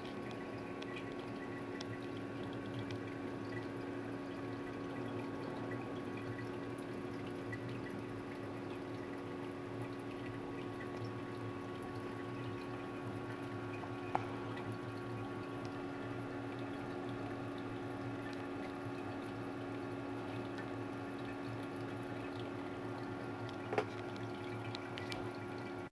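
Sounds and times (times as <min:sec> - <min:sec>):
aquarium pump hum: 0:00.0 - 0:25.9
water trickling and splashing: 0:00.0 - 0:25.9.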